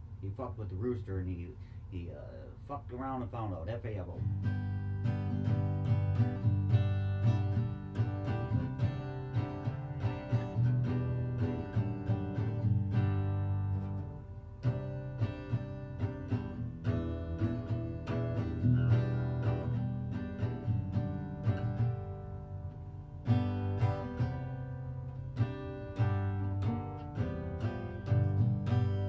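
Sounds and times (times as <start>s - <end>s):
acoustic guitar strumming: 2.4s - 29.0s.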